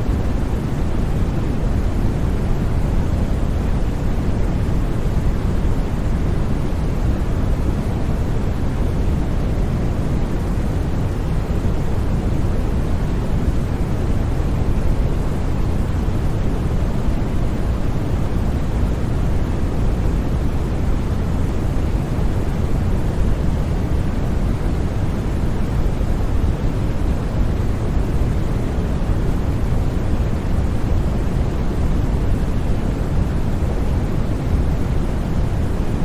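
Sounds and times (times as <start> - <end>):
white noise hiss: 0.0 - 36.0.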